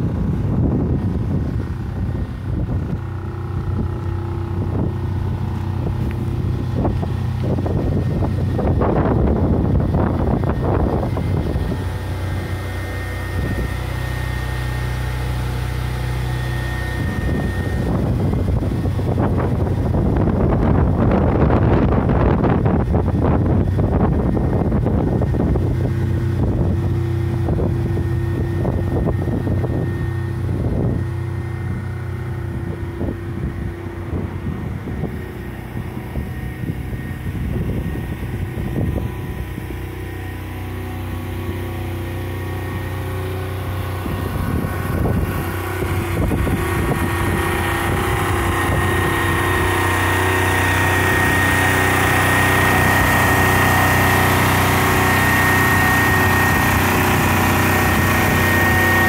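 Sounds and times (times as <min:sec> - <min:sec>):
diesel generator engine running: 0:00.0 - 0:59.0
high whine: 0:00.0 - 0:59.0
wind buffeting microphone: 0:00.0 - 0:59.0.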